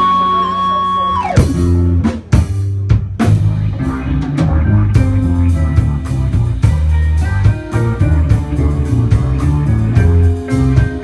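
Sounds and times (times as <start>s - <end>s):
band playing rhythmic groove: 0.0s - 11.0s.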